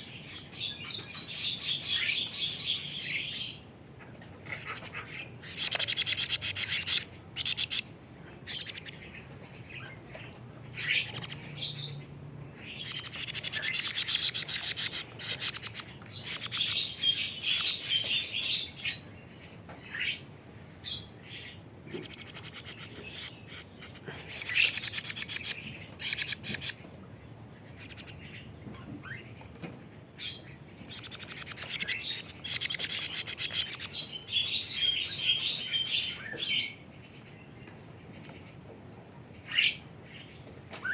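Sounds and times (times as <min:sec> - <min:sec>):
young cuckoo chirping: 0:00.0 - 0:27.0, 0:27.8 - 0:37.1.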